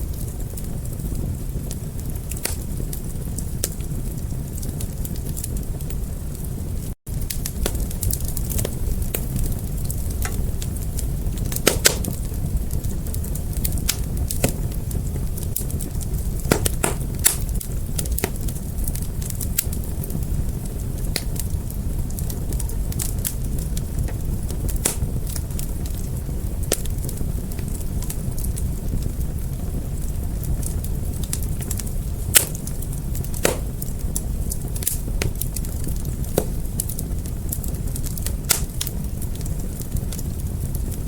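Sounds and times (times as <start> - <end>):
fire crackling pops: 0.0 - 41.0
fire rumbling: 0.0 - 41.0.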